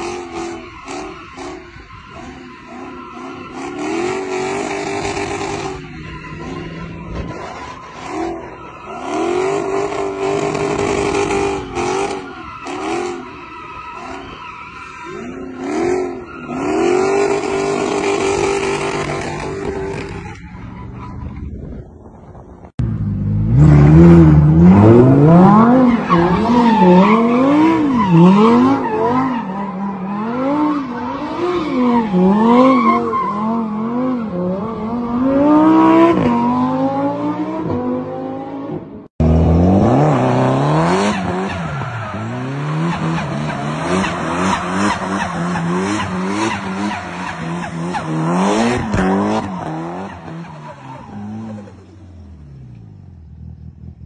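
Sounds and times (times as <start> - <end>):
tires squealing: 0.0 - 22.4, 23.5 - 38.5, 39.3 - 52.8.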